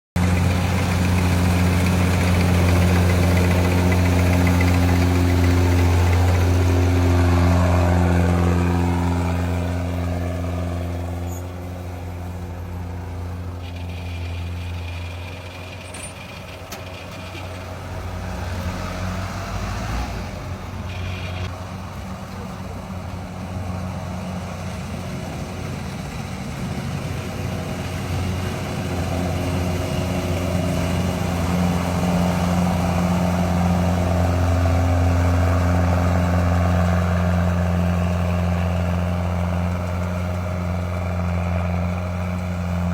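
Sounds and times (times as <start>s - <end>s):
combine harvester diesel engine: 0.2s - 42.9s.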